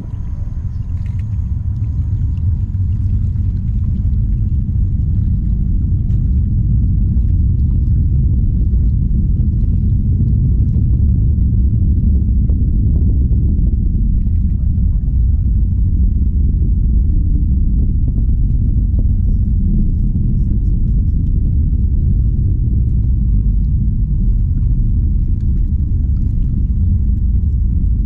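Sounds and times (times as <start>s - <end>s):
distant rocket engine rumble: 0.0s - 28.0s.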